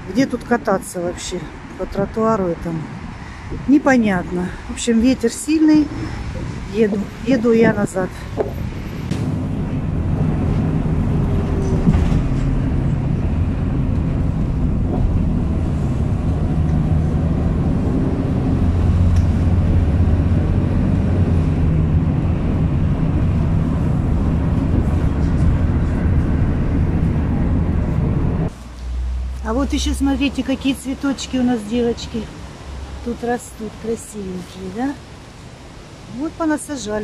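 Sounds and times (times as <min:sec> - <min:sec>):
bus engine drone: 0:00.0 - 0:37.0
road rumble: 0:00.0 - 0:37.0.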